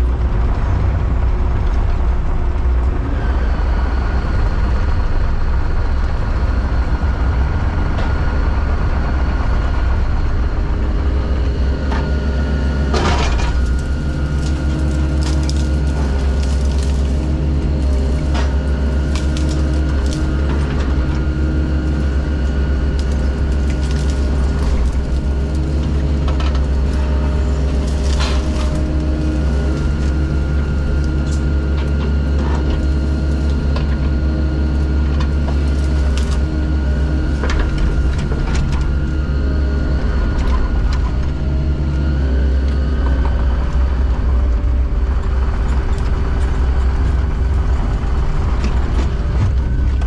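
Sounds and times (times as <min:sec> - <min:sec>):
heavy diesel engine under load: 0:00.0 - 0:50.0.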